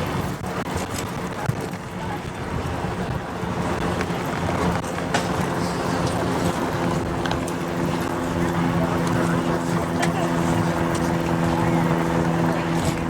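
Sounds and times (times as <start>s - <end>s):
city street traffic: 0.0s - 13.0s
vehicle engine running: 0.0s - 13.0s.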